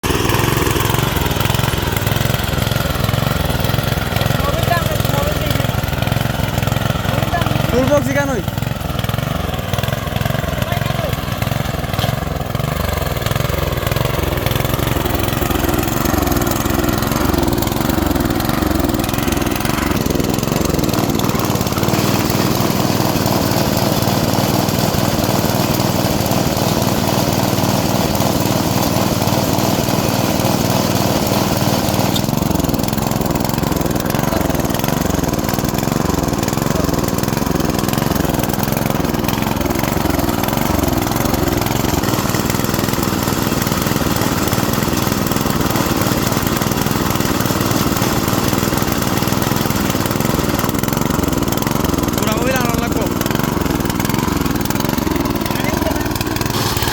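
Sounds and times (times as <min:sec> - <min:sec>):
harvester engine rumbling: 0:00.0 - 0:56.9.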